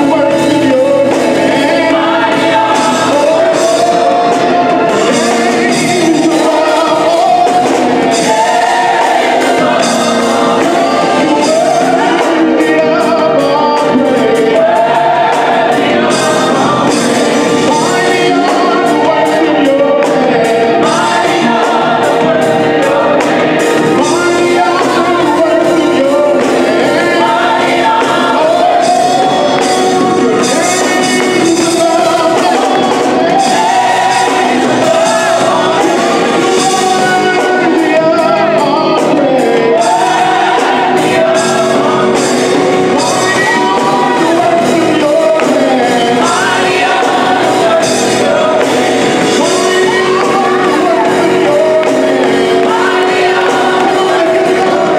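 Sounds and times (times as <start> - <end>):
band with bass drums and organ: 0.0 - 54.9
gospel choir singing: 0.0 - 54.9.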